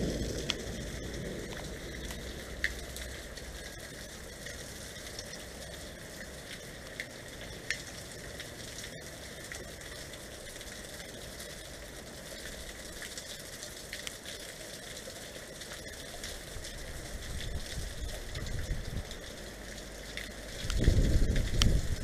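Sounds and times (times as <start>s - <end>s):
steady hiss: 0.0s - 22.0s
water drops ticking: 0.0s - 22.0s.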